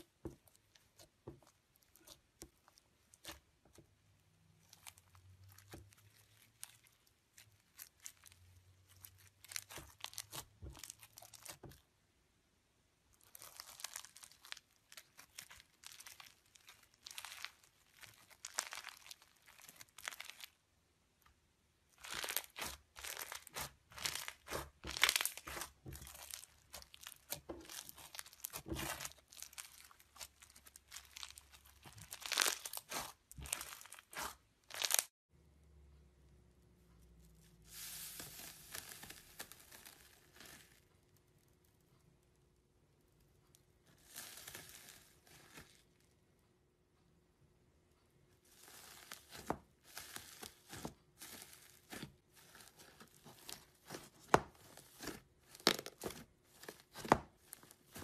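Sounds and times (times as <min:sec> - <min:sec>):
foam-bead slime crackling: 0:00.0 - 0:11.9, 0:13.1 - 0:20.6, 0:21.9 - 0:35.2, 0:37.4 - 0:41.8, 0:43.9 - 0:46.0, 0:48.4 - 0:58.0.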